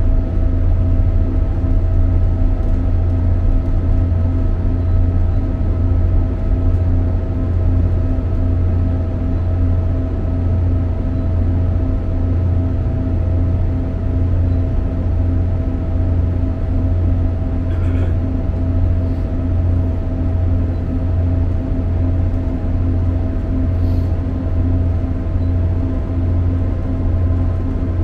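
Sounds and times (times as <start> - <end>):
constant hum: 0.0 - 28.0
low engine drone: 0.0 - 28.0.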